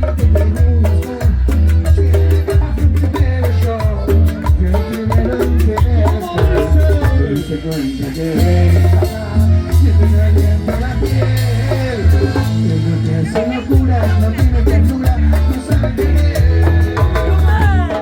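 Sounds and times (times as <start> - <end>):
live cumbia band playing: 0.0 - 18.0.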